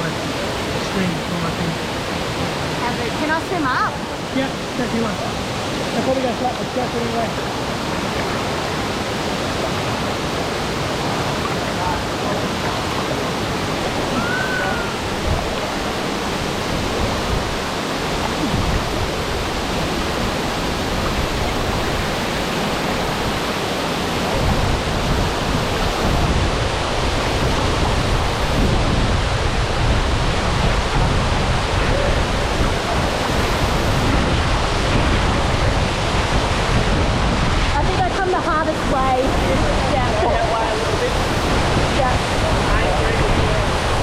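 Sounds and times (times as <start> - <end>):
waterfall roaring: 0.0 - 44.0.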